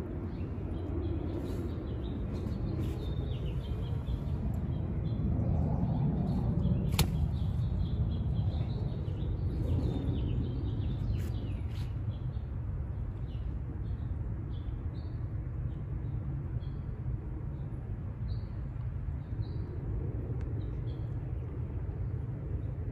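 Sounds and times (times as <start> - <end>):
low outdoor rumble: 0.0 - 22.9.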